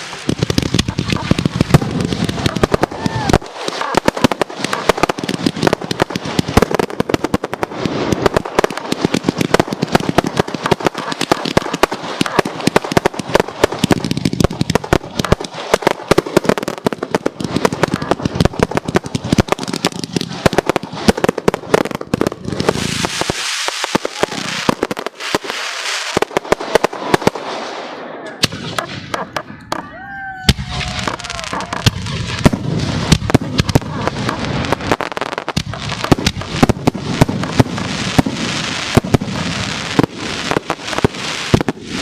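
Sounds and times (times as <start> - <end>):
firework bangs and bursts: 0.0 - 42.0.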